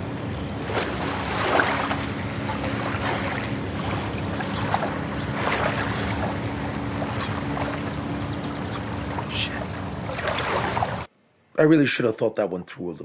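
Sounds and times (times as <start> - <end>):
water splashing and lapping: 0.0 - 11.1
wind rumble: 0.0 - 11.1.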